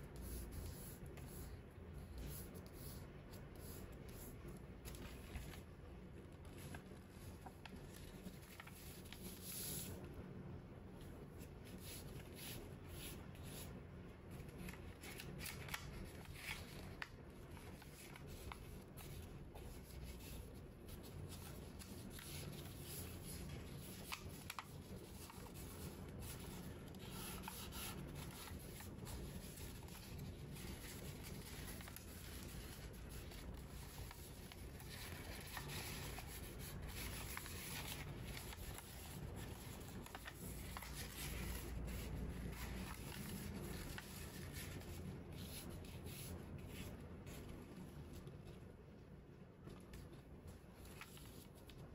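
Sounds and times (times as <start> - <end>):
paper rustling and crinkling: 0.2 - 10.0, 14.3 - 48.9, 49.6 - 51.9.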